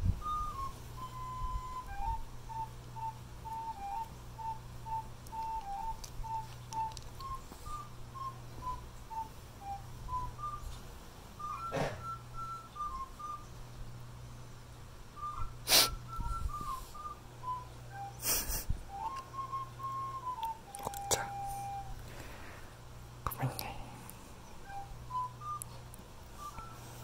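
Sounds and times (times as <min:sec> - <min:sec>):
person whistling a tune: 0:00.0 - 0:13.6, 0:15.1 - 0:22.4, 0:24.5 - 0:27.0.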